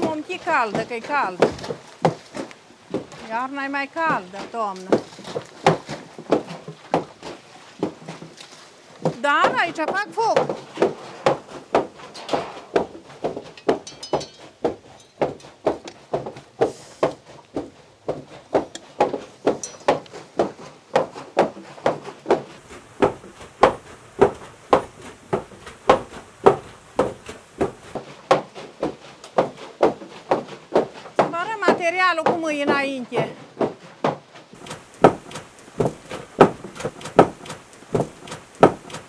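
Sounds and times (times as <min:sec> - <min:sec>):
wooden hammers thudding: 0:00.0 - 0:08.4, 0:09.0 - 0:39.0.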